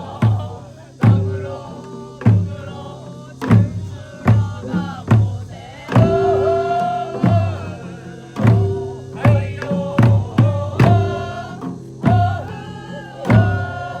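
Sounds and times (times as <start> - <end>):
deep drum strokes: 0.0 - 14.0.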